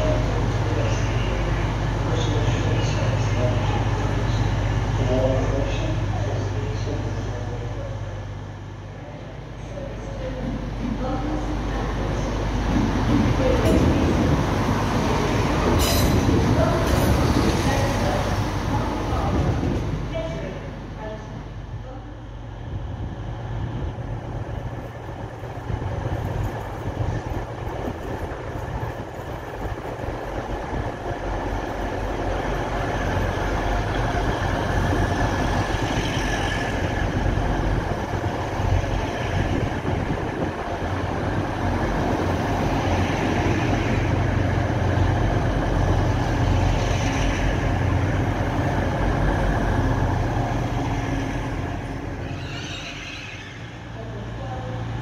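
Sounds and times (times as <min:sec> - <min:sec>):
diesel train engine rumble: 0:00.0 - 0:55.0
wheel-on-rail noise: 0:08.9 - 0:21.4, 0:22.0 - 0:55.0.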